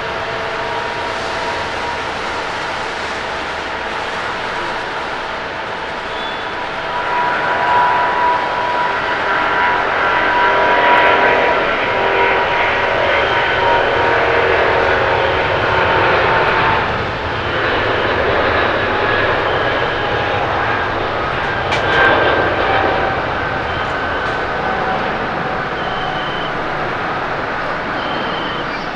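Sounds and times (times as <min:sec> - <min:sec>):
jet engines roaring at takeoff: 0:00.0 - 0:28.9.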